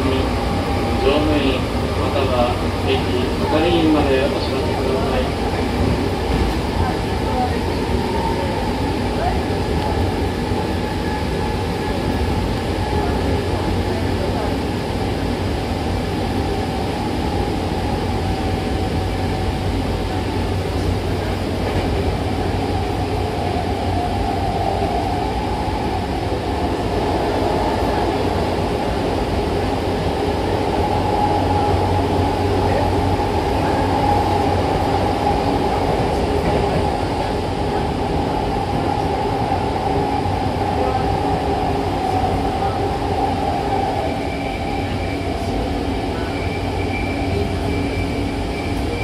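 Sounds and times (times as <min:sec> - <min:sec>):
train running rumble: 0:00.0 - 0:49.0.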